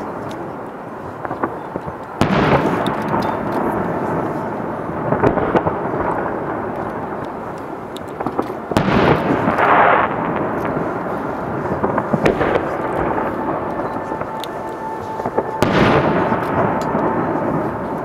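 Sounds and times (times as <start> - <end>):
fireworks bursting: 0.0 - 18.0
rolling rumble with crackles: 0.0 - 18.0.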